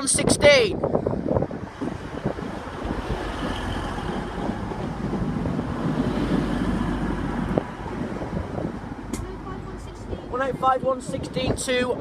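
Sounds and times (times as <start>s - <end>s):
diesel train engine and wheels: 0.0s - 12.0s.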